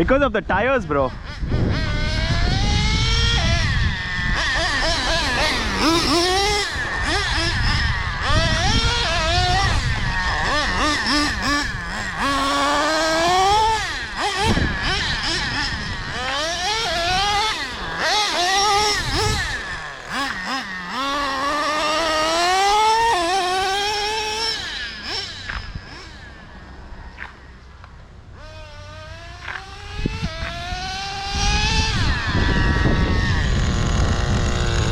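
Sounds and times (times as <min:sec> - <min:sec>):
nitro engine revving: 0:00.0 - 0:34.9.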